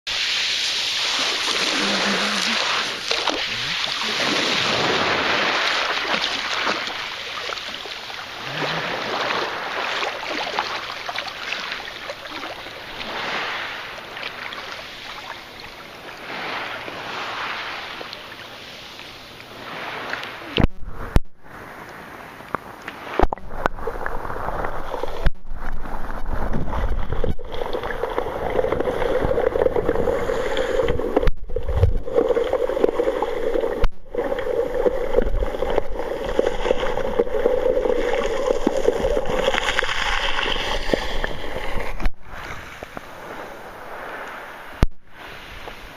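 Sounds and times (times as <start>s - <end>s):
sea waves washing onto shore: 0.1s - 45.9s.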